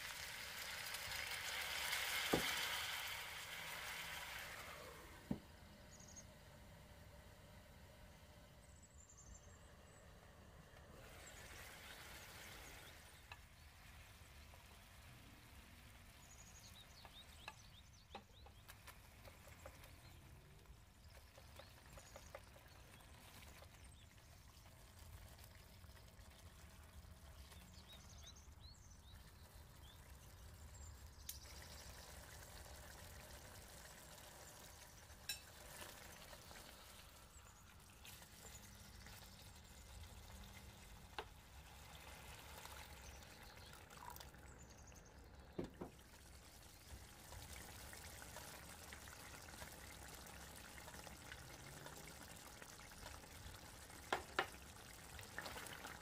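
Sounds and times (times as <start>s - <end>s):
low steady hiss: 0.0s - 56.0s.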